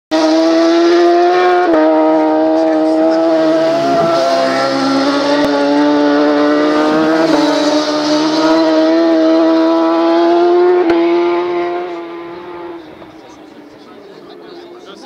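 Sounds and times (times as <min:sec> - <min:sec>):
racing motorcycle passing: 0:00.1 - 0:15.0.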